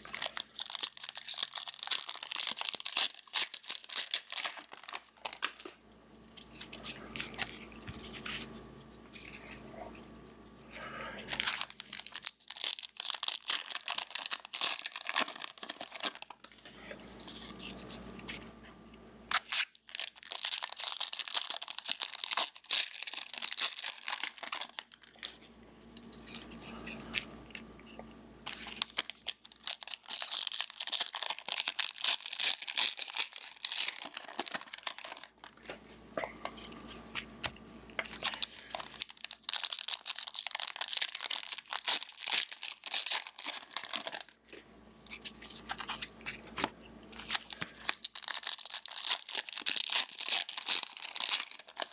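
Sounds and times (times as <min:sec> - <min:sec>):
wrappers crinkling and tearing: 0:00.0 - 0:18.6, 0:19.3 - 0:51.9.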